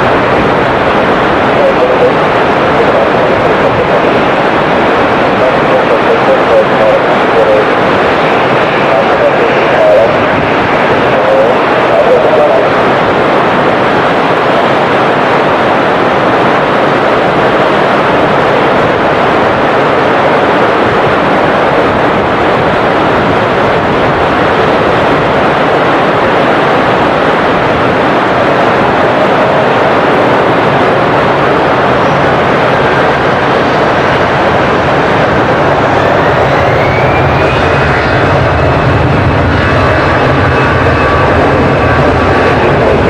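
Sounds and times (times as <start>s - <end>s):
heavy rain: 0.0s - 43.0s
jet engines roaring: 0.0s - 43.0s
wind: 0.0s - 43.0s.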